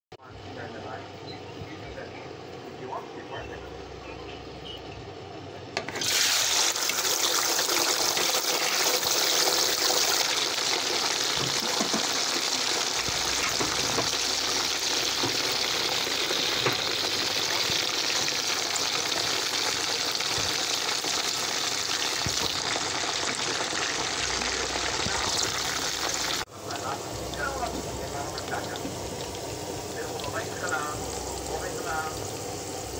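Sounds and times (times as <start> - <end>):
chicken feet deep-frying in oil: 5.9 - 32.9.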